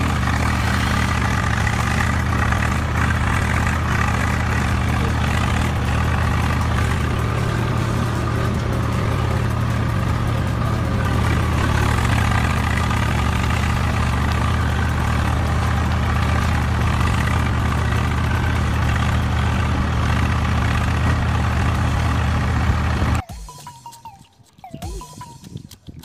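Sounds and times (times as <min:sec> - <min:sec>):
engine idling: 0:00.0 - 0:23.3.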